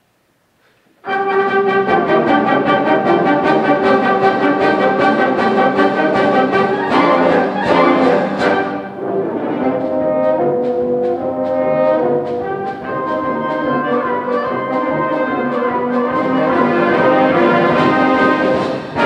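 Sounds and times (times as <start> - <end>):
concert band brass chords: 1.0 - 19.0.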